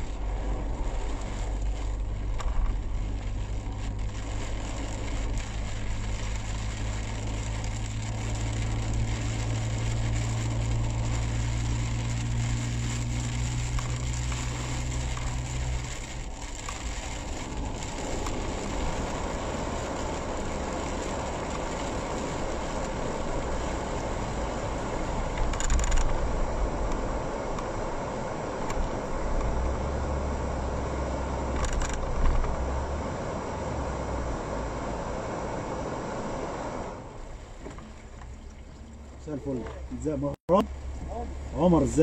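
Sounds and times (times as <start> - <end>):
car engine hum: 0.0 - 42.0
tyres hissing on wet road: 0.0 - 42.0.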